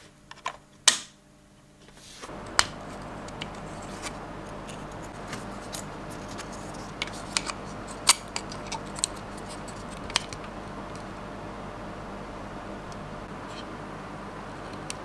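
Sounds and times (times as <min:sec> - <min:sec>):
faint steady hiss: 0:01.4 - 0:15.0.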